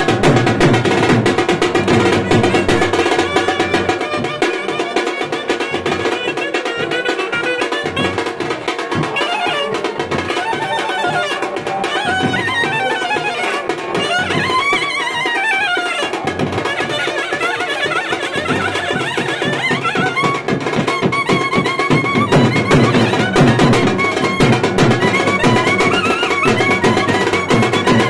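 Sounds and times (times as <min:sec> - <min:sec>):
snare and bass drums beat: 0:00.0 - 0:28.0
clarinets playing melody: 0:01.8 - 0:28.0.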